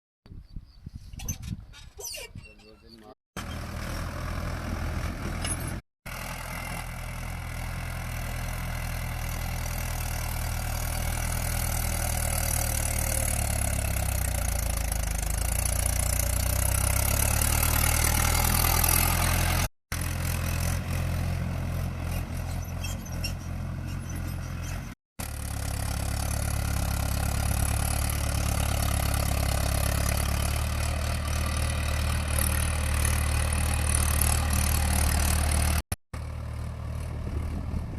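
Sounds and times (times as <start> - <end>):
tractor diesel engine running: 3.4 - 37.9.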